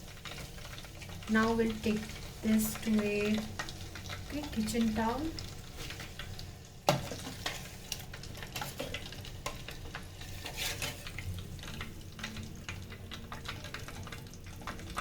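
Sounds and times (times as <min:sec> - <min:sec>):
chicken deep-frying in hot oil: 0:00.0 - 0:15.0.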